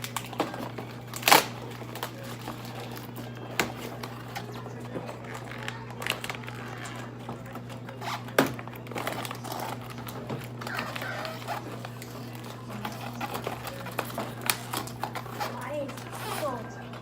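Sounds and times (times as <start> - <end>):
plastic packaging clicks and rustling: 0.0 - 17.0.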